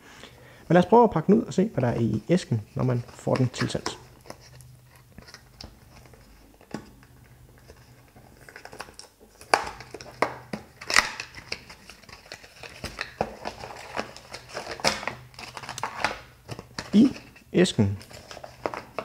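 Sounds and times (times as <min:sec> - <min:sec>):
packaging crinkling and clicking: 0:03.1 - 0:17.4, 0:18.0 - 0:19.0.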